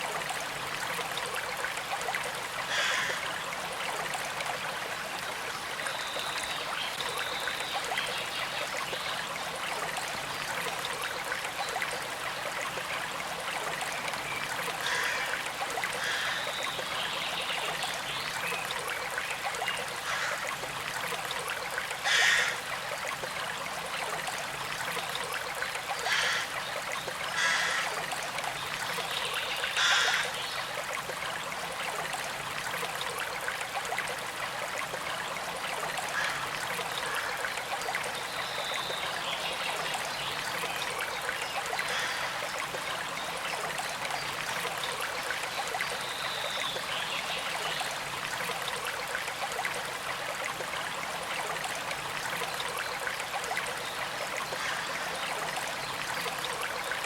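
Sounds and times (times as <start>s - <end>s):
small creek trickling: 0.0s - 57.0s.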